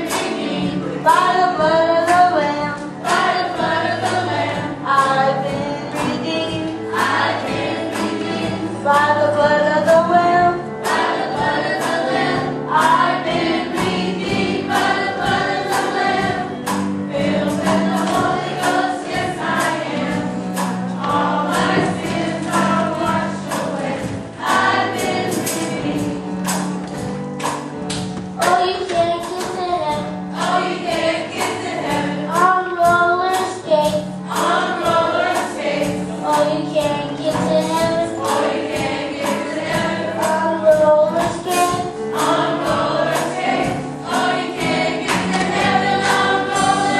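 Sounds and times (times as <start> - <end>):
children's choir singing gospel: 0.0 - 46.9
low instrumental accompaniment: 0.0 - 46.9
steady beat: 0.0 - 46.9.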